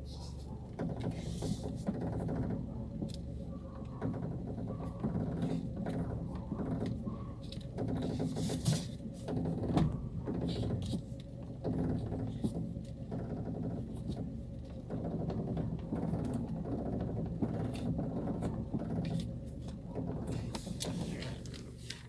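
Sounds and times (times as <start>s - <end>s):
car engine idling: 0.0s - 22.0s
coil spring knocking and creaking: 0.7s - 21.3s.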